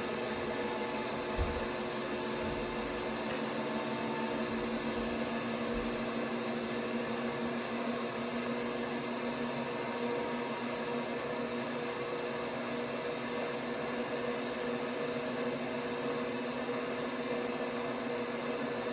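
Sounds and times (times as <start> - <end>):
washing machine motor humming: 0.0 - 18.9.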